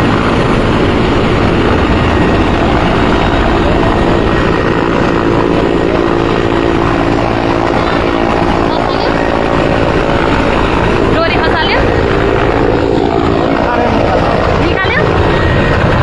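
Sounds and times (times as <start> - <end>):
helicopter rotor and engine drone: 0.0 - 16.0.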